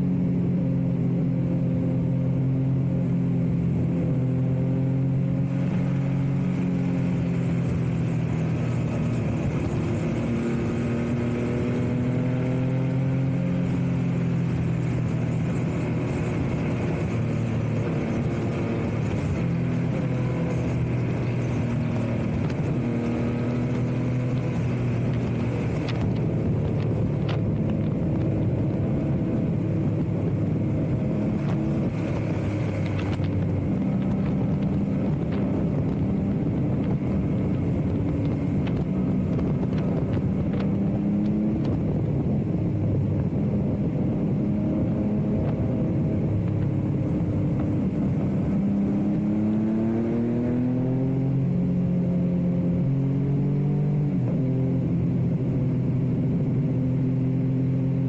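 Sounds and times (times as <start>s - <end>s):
motorcycle engine cruising: 0.0s - 58.0s
wind noise on microphone: 0.0s - 58.0s.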